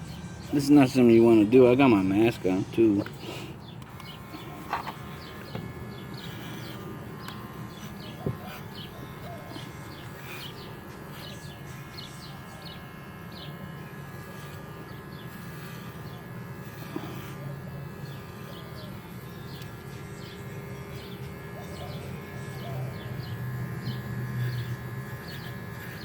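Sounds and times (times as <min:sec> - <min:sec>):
pet clippers buzzing: 0:00.0 - 0:26.0.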